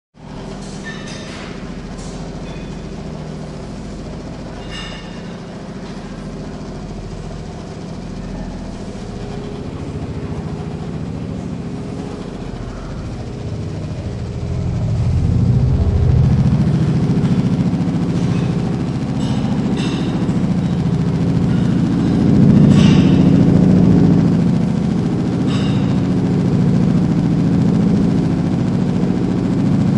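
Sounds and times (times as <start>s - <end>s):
treadmill motor and belt drone: 0.2s - 29.9s.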